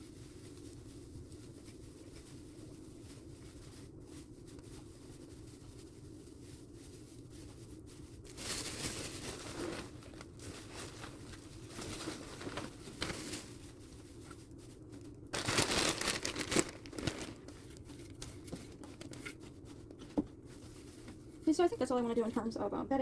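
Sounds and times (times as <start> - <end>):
paper and cardboard rustling: 0.0 - 23.0.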